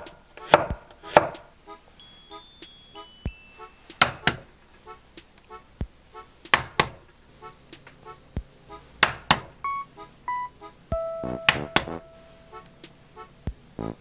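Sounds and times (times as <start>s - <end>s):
soft background music: 0.0s - 6.6s, 7.4s - 14.0s.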